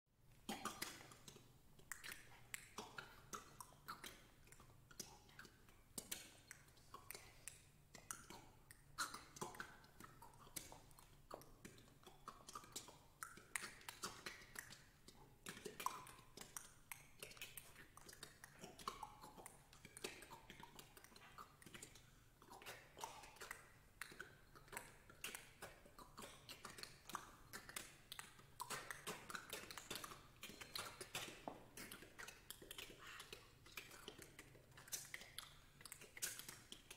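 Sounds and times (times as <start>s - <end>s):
mouth clicks and lip pops: 0.3s - 36.9s.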